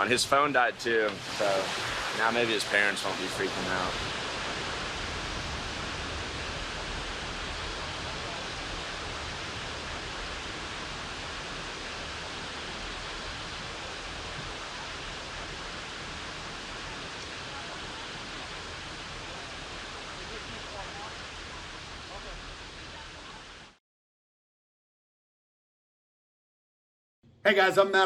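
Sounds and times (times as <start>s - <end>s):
rushing outdoor background noise: 0.0s - 23.8s.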